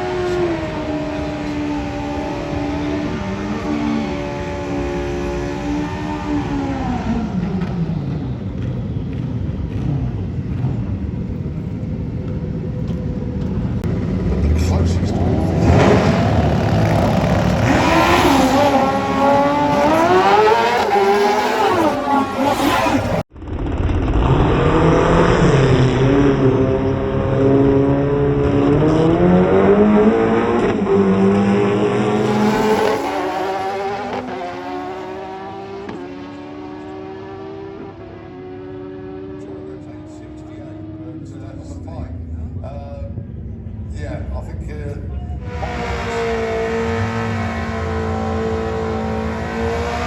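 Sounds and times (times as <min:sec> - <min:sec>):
low rumble of engines: 0:00.0 - 0:34.8, 0:38.0 - 0:50.0
drag racing motorcycle engine: 0:00.0 - 0:50.0.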